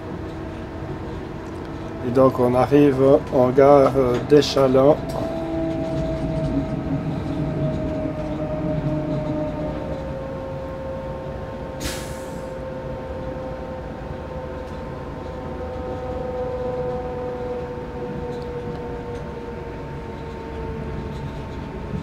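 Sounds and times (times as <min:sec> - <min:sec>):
train motor whine: 0:00.0 - 0:22.0
train rumbling over track: 0:00.0 - 0:22.0.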